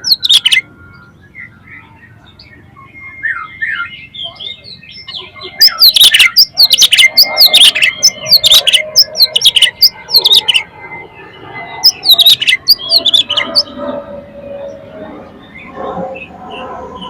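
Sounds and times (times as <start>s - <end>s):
bird singing whistled notes: 0.0s - 13.8s.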